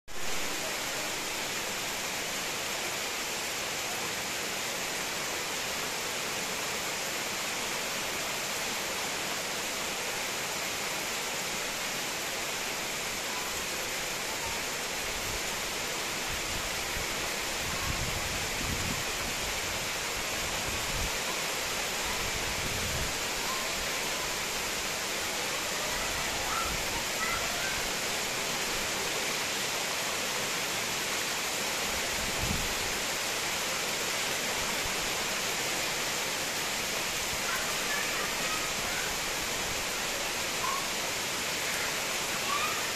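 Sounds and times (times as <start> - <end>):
heavy rain on foliage: 0.1 - 42.9.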